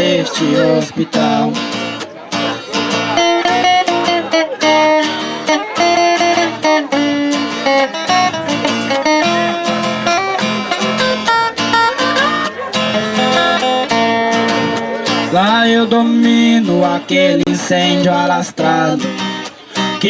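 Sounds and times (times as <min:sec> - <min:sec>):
strummed and picked string instruments: 0:00.0 - 0:20.0.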